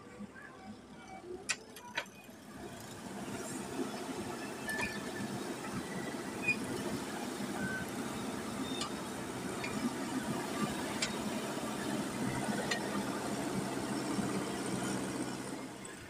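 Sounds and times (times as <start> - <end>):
diesel engine running: 2.3 - 16.0.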